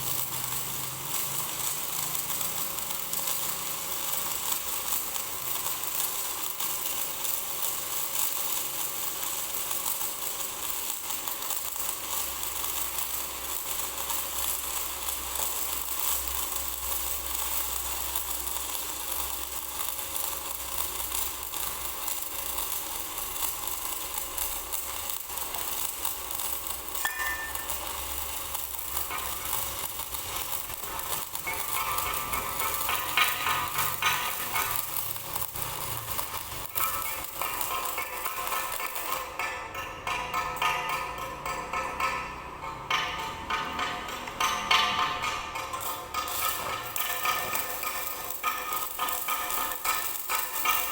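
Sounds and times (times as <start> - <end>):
welding arc crackling: 0.0 - 50.9.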